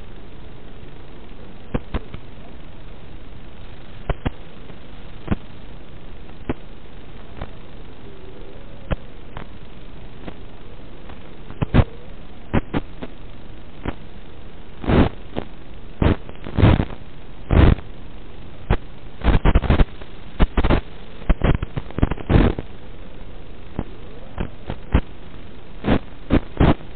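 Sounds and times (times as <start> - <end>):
loud crackles and noise bursts: 0.0 - 26.9
receiver static hiss: 0.0 - 26.9.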